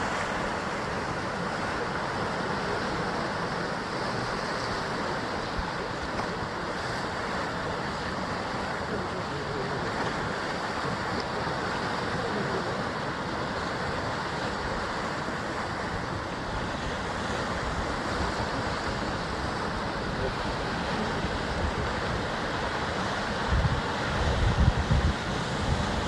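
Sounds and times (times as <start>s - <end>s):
sea waves surging against rocks: 0.0s - 26.0s.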